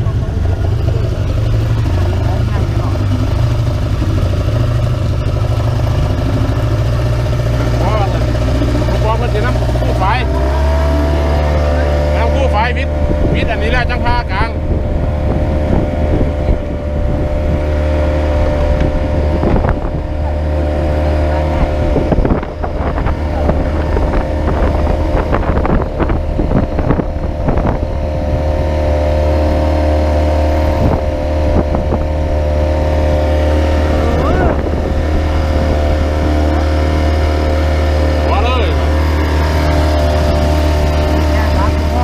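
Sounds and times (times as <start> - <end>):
motorboat engine drone: 0.0 - 42.0.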